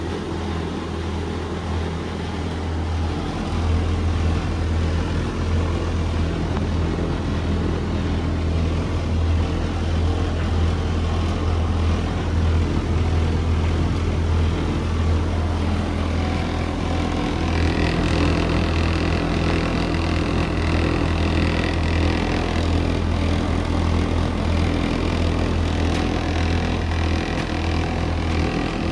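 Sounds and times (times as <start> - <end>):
washing machine and dryer hum: 0.0 - 28.9.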